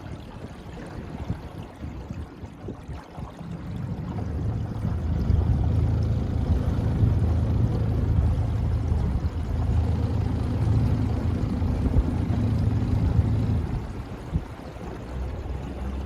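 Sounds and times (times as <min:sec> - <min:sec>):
outboard motor running: 0:00.0 - 0:16.0
water rushing: 0:00.0 - 0:16.0.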